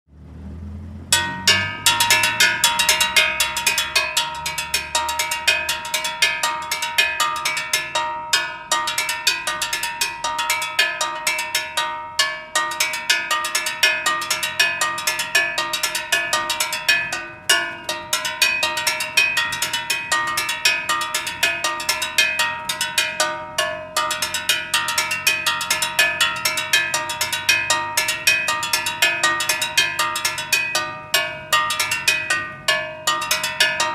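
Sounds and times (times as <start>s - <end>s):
metal gas cylinder struck rhythmically: 1.1s - 33.9s.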